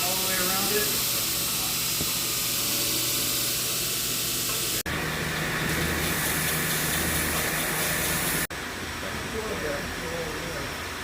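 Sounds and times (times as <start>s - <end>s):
workshop machinery hissing: 0.0s - 11.0s.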